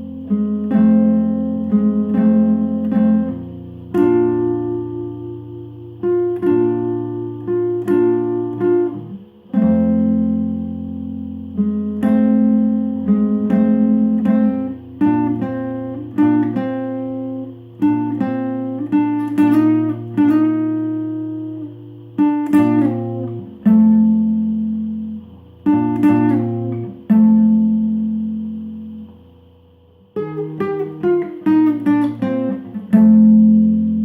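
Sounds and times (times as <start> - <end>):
guitar playing: 0.0 - 34.0.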